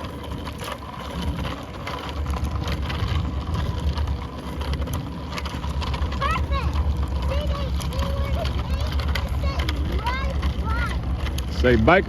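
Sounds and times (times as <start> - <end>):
bicycle tyre noise: 0.0 - 12.0
light clicks and rattles: 0.0 - 12.0.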